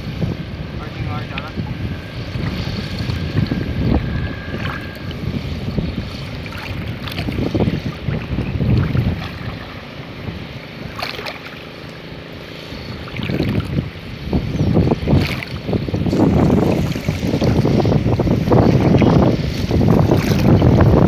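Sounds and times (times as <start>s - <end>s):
water sloshing and splashing: 0.0s - 21.0s
wind rumbling on microphone: 0.0s - 21.0s.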